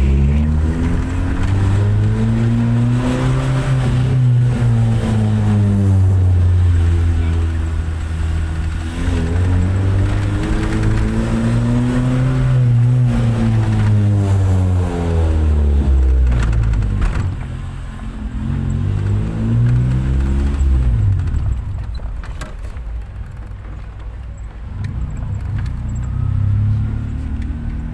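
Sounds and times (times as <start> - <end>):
car engine revving: 0.0 - 21.9, 24.7 - 27.9.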